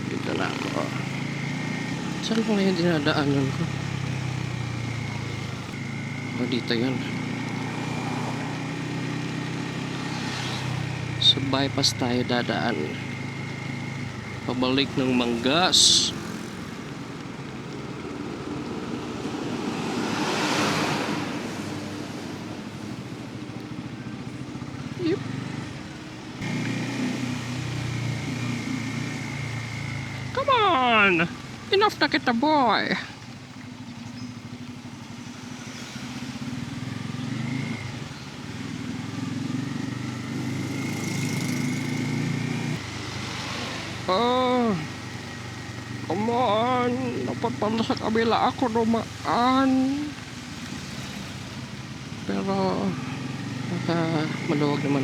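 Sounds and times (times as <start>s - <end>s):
motorcycle engine running: 0.0s - 55.0s
wet road noise: 0.0s - 55.0s.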